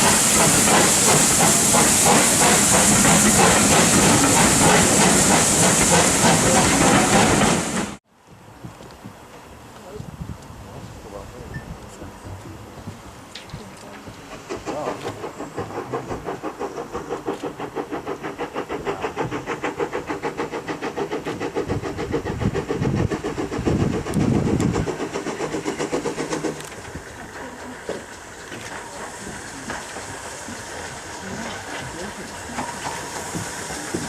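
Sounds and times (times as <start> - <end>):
steam train passing: 0.0 - 34.0.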